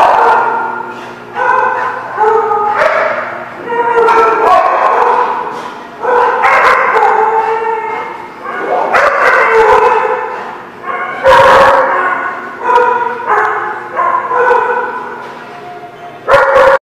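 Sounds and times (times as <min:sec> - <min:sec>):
dog barking: 0:00.0 - 0:15.2, 0:16.2 - 0:16.8.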